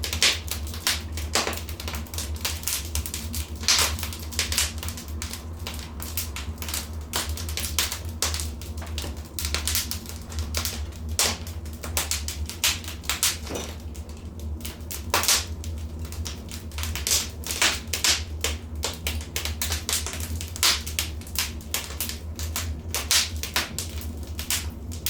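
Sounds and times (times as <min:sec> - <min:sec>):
low steady rumble: 0:00.0 - 0:25.0
wood fire crackling: 0:00.0 - 0:25.0.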